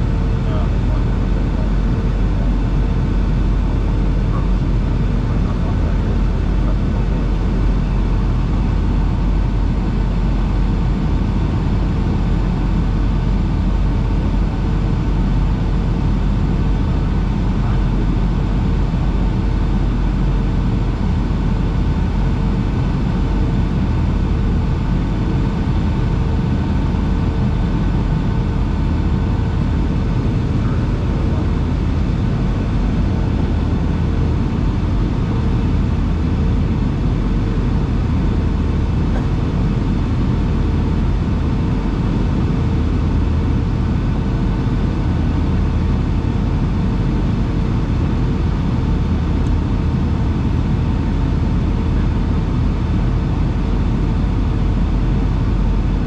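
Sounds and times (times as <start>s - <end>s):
faint steady hum tones: 0.0s - 56.0s
low engine rumble: 0.0s - 56.0s.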